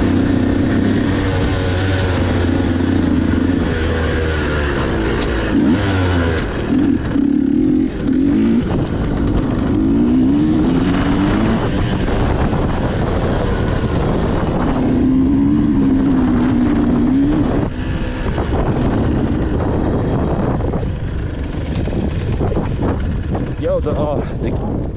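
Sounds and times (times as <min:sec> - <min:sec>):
dirt bike engine revving: 0:00.0 - 0:23.6.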